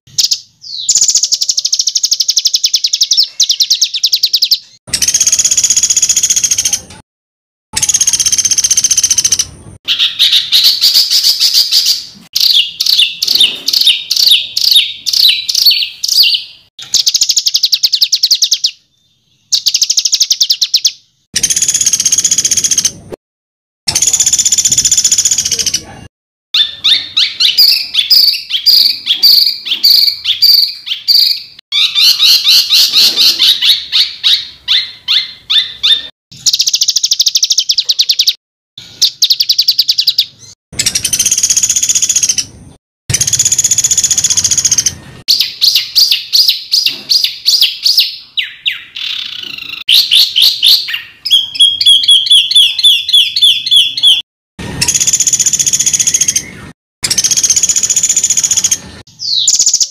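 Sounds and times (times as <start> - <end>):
songbirds chattering and trilling: 0.1 - 6.9, 7.8 - 23.0, 24.0 - 38.4, 43.2 - 54.2, 54.8 - 59.9.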